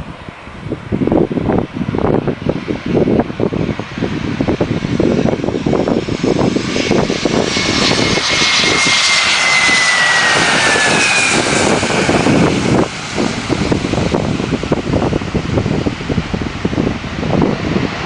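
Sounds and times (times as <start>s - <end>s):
jet engines passing overhead: 0.0s - 18.0s.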